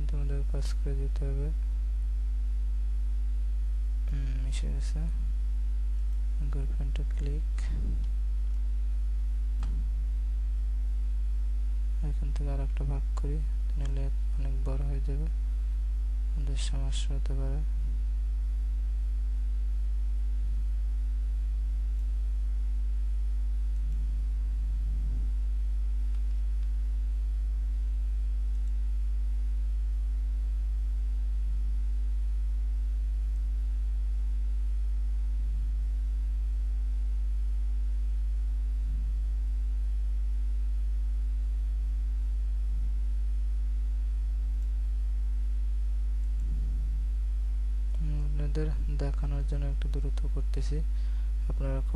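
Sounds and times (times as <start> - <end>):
mains hum: 0.0 - 51.9.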